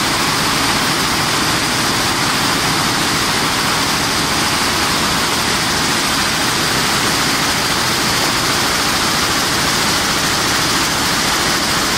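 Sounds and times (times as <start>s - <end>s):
air-jet loom rushing air: 0.0s - 11.9s
fast even loom clatter: 0.0s - 11.9s.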